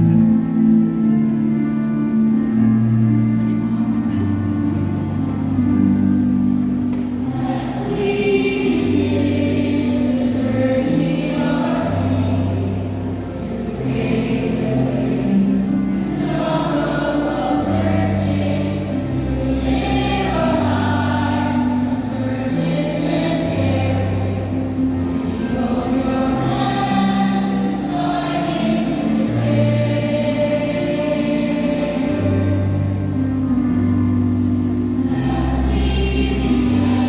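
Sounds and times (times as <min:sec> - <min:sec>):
choir singing a slow hymn: 0:00.0 - 0:37.0
low accompanying line: 0:00.0 - 0:37.0.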